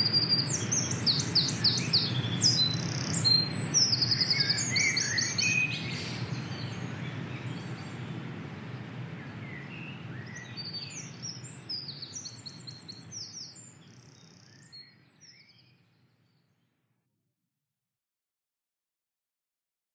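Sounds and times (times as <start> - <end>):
songbirds singing: 0.0 - 16.5.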